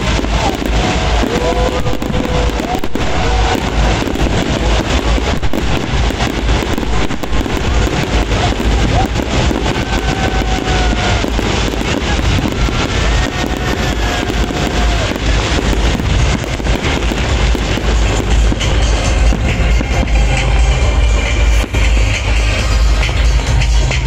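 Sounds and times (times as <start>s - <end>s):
fireworks hissing and crackling: 0.0s - 24.0s.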